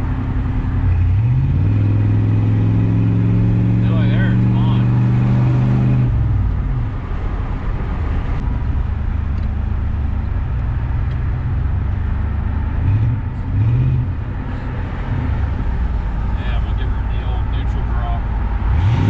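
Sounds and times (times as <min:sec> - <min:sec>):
car engine running: 0:00.0 - 0:19.0
road noise: 0:00.0 - 0:19.0.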